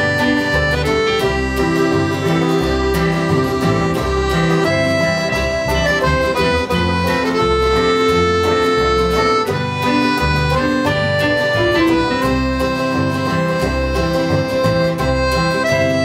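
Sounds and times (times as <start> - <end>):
instrumental folk music: 0.0 - 16.0.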